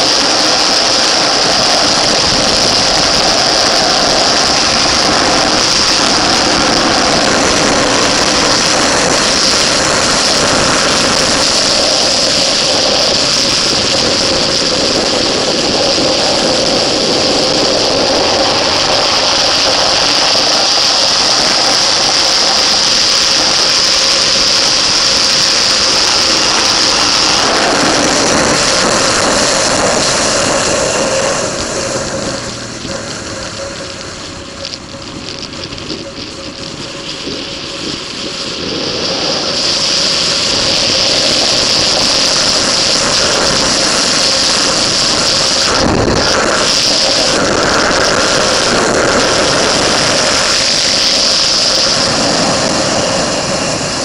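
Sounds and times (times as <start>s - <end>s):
motorcycle engine running: 0.0s - 54.0s
wind rush: 0.0s - 54.0s.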